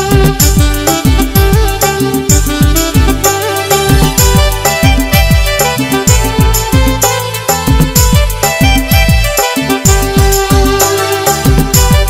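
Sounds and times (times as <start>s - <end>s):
loud dance music: 0.0s - 12.0s.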